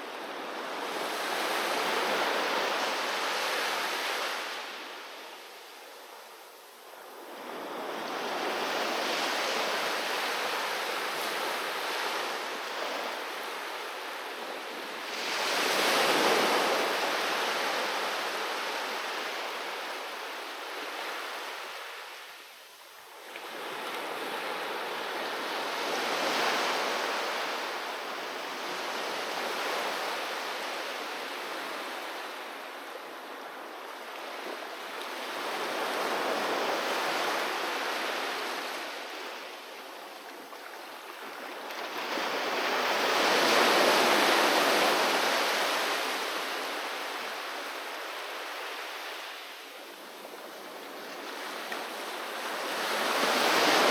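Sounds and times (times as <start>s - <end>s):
sea waves breaking on beach: 7.2s - 22.2s, 23.4s - 53.9s.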